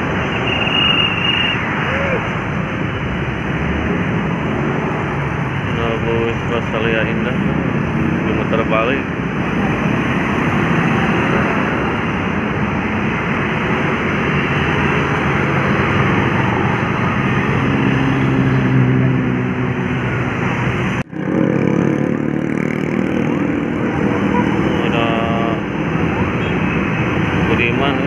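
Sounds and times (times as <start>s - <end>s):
loud road traffic: 0.0s - 28.0s.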